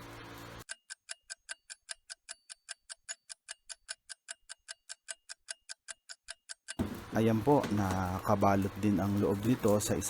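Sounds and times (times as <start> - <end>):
clock ticking: 0.6 - 9.2.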